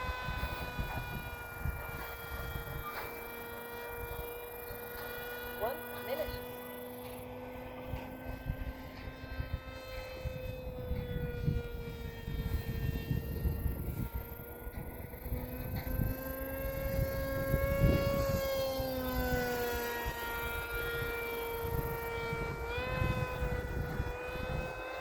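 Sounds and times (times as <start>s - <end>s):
drivetrain whine: 0.0s - 25.0s.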